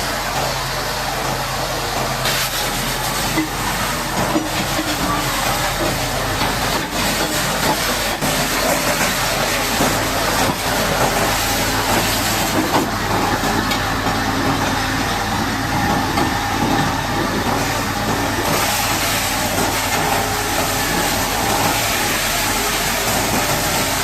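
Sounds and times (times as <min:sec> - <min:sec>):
engine running: 0:00.0 - 0:24.0
high-pressure water jet hissing: 0:00.0 - 0:24.0.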